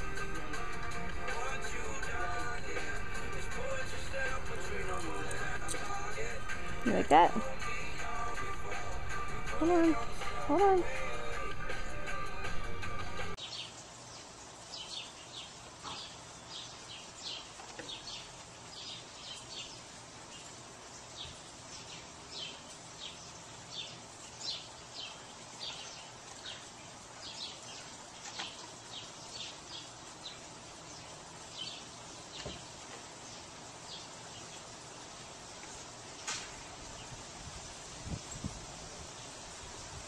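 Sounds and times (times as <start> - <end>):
faint outdoor hiss: 0.0 - 40.0.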